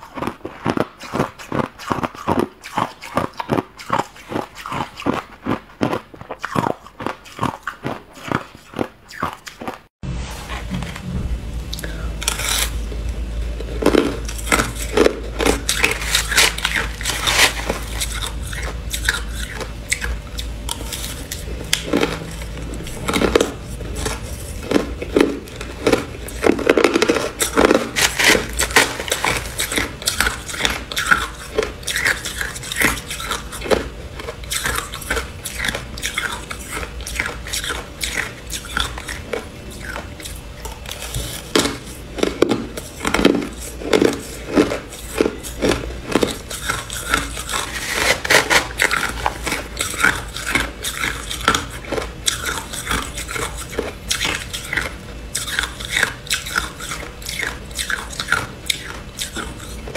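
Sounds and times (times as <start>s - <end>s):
ice being chewed: 0.0s - 9.9s, 11.7s - 59.9s.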